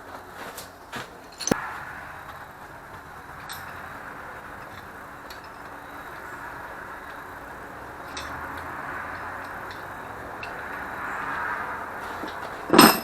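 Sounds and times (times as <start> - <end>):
workshop background hiss: 0.0 - 13.0.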